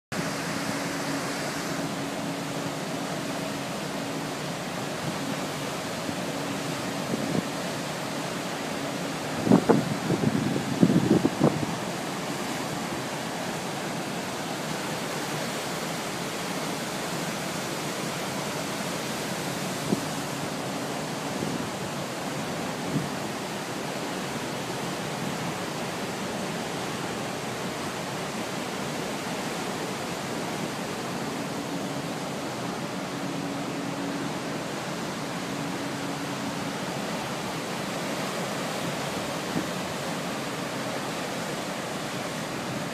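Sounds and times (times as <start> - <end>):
ship wake rushing and churning: 0.1 - 42.9.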